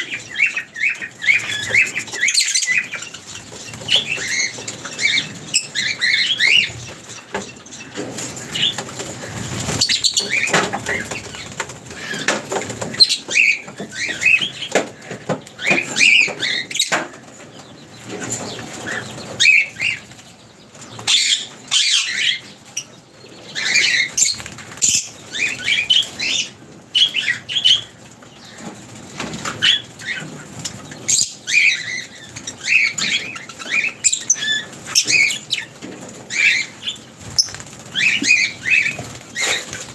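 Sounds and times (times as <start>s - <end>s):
birds wings flapping: 0.0s - 21.3s, 23.6s - 39.9s
birds chirping: 0.0s - 39.9s.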